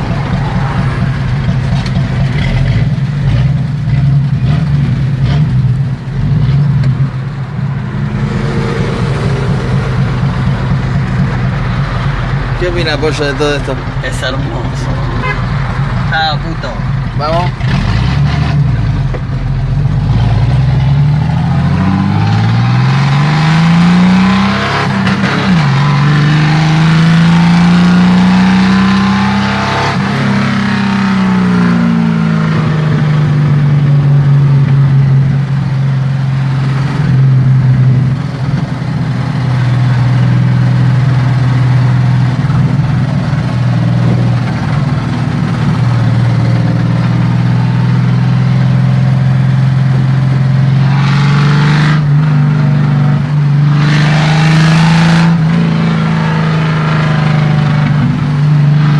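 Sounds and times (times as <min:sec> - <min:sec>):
car engine accelerating hard: 0:00.0 - 0:58.9.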